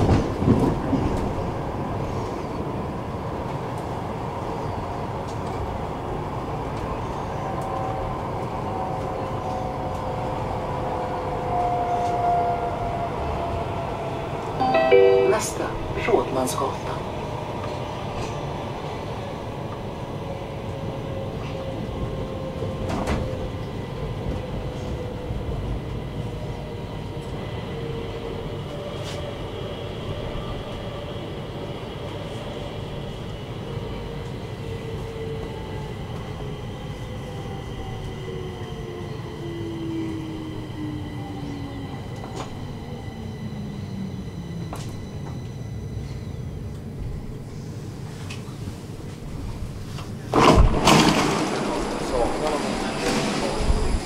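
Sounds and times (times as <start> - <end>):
subway train rumbling and braking: 0.0 - 54.0.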